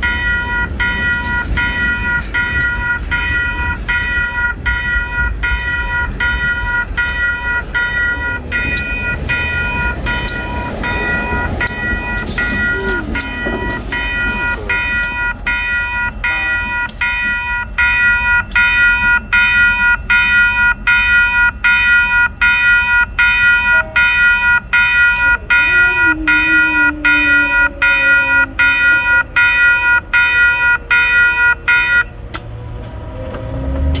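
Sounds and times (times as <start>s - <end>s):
railroad crossing bell ringing: 0.0s - 33.2s
freight train rumble: 0.0s - 34.0s.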